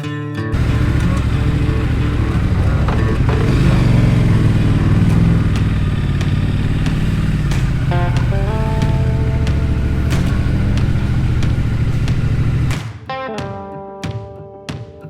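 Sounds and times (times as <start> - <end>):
motorcycle engine drone: 0.6 - 12.8
road and wind noise: 0.6 - 12.8.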